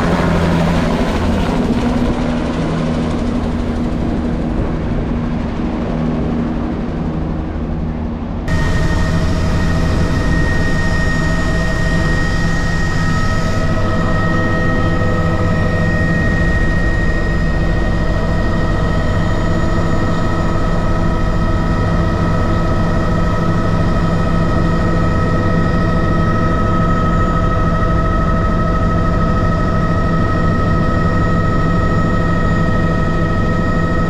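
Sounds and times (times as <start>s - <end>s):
propeller aircraft engines droning: 0.0s - 34.0s.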